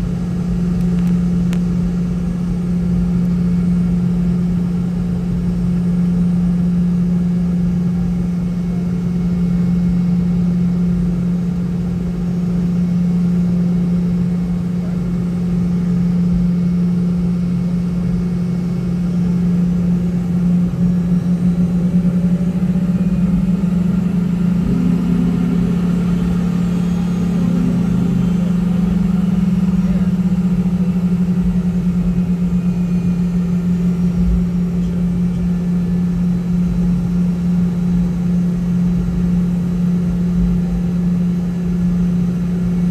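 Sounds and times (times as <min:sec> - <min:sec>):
jet engines humming in cabin: 0:00.0 - 0:42.9.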